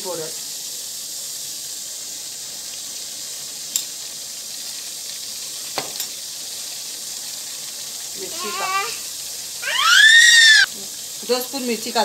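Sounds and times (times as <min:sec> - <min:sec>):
sauce sizzling in oil: 0:00.0 - 0:12.0.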